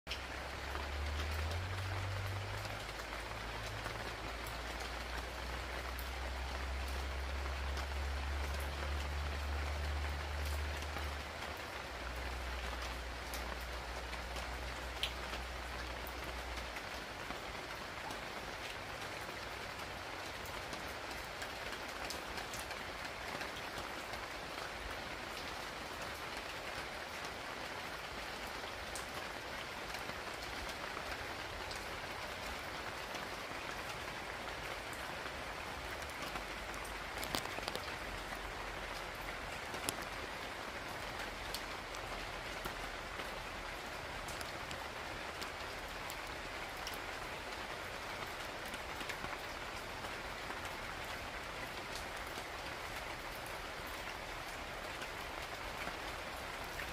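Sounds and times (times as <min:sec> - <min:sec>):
steady rain: 0:00.0 - 0:56.9
raindrop ticks: 0:00.1 - 0:27.4, 0:28.1 - 0:56.9.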